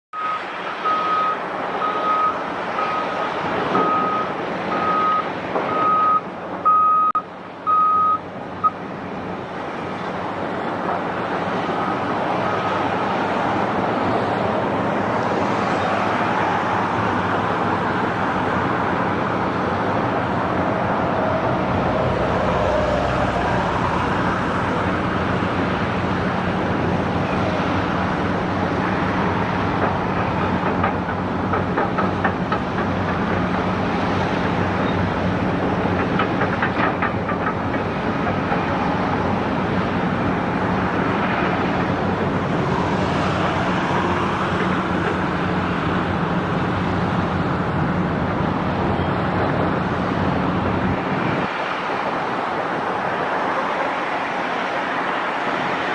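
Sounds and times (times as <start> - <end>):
truck engine under load: 0.2 - 55.9.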